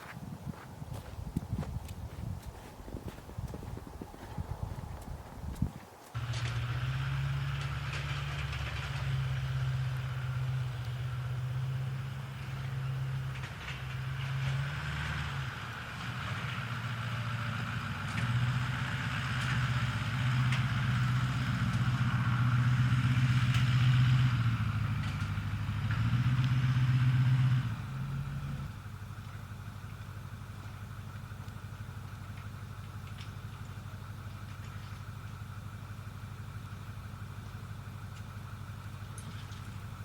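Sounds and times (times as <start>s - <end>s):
engine running and idling: 0.0s - 40.0s.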